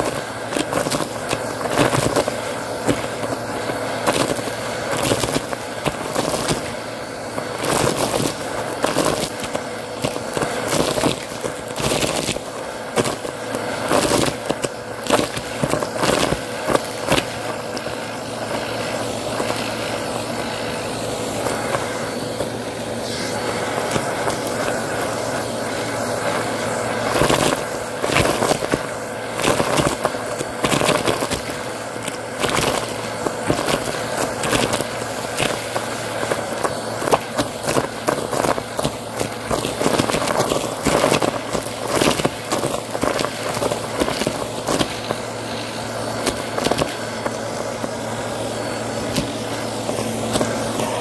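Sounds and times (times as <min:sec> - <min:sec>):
debris rattling up vacuum hose: 0:00.0 - 0:51.0
vacuum motor hum: 0:00.0 - 0:51.0.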